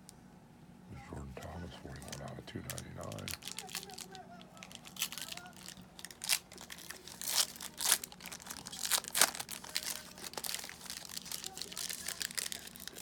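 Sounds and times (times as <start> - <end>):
cards being handled: 1.4 - 13.0
wrappers crinkling and tearing: 1.4 - 13.0.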